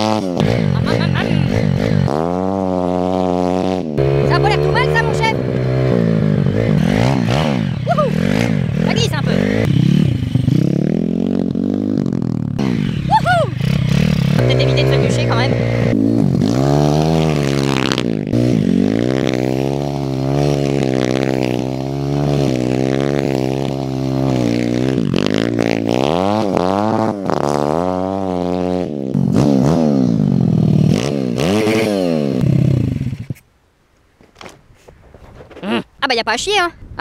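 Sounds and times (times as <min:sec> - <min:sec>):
motorcycle engine revving: 0:00.0 - 0:33.4.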